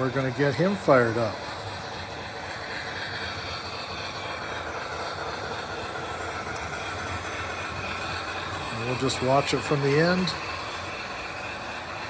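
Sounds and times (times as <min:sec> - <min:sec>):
model trains whirring on track: 0:00.0 - 0:12.0.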